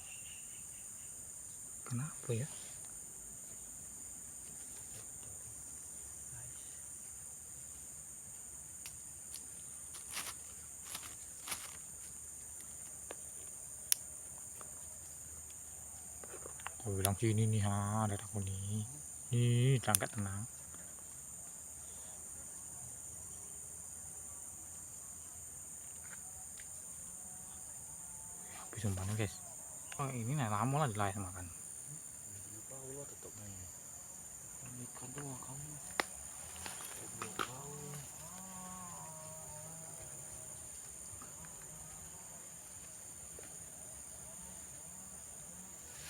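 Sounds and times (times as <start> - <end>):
insects chorus: 0.0 - 46.0.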